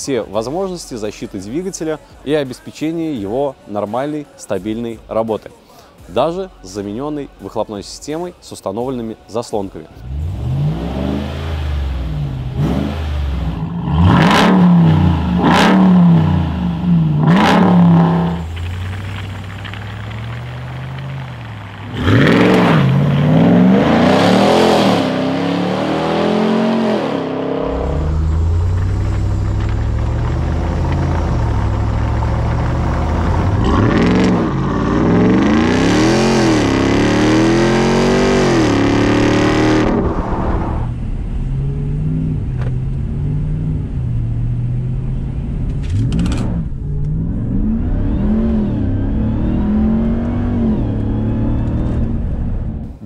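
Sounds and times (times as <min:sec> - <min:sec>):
truck engine revving: 0:10.0 - 0:53.0.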